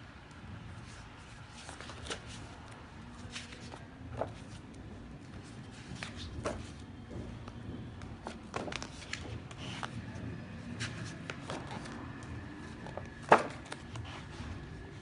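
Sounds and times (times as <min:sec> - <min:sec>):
stiff pages turning and rustling: 0:00.7 - 0:15.0.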